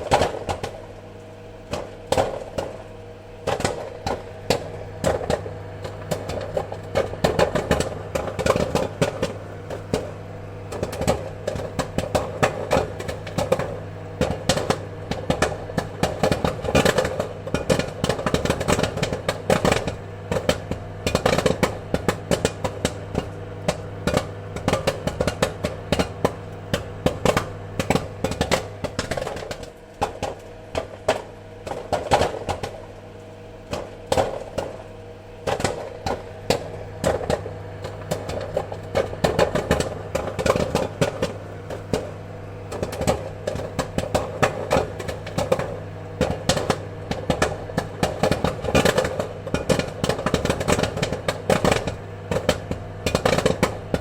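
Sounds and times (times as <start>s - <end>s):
popcorn kernels popping: 0.0s - 54.0s
steady low hum: 0.0s - 54.0s.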